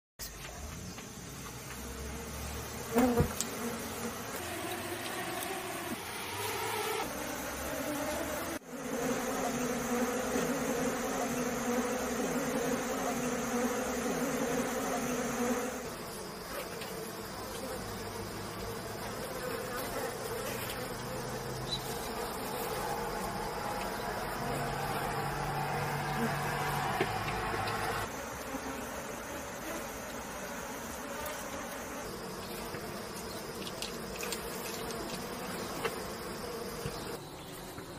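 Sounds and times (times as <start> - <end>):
honeybees buzzing: 0.8 - 37.9.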